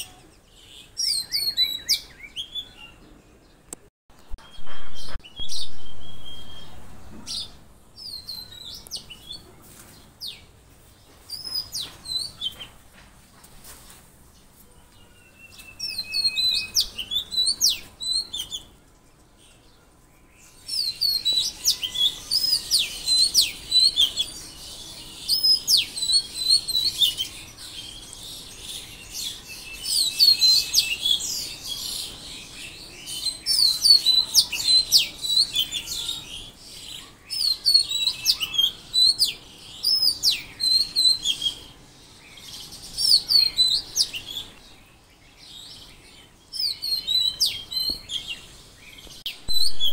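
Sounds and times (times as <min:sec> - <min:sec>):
songbirds chirping and singing: 0:00.0 - 0:49.9.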